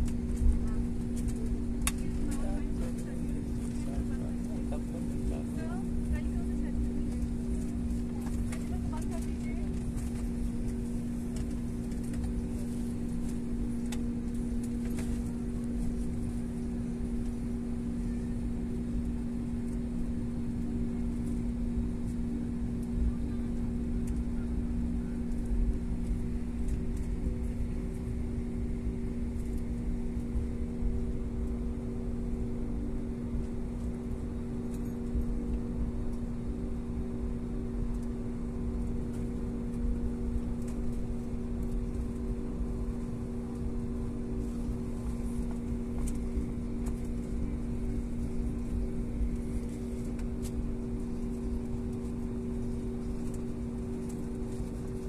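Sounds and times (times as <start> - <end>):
airliner engines humming: 0.0 - 55.0.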